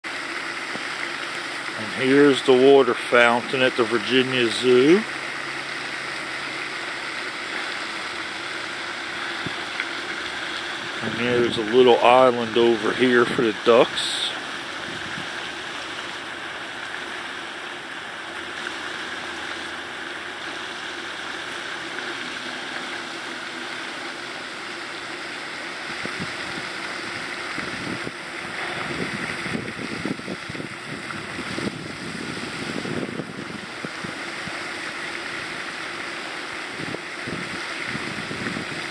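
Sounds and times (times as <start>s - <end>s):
fountain splashing into pond: 0.0s - 38.9s.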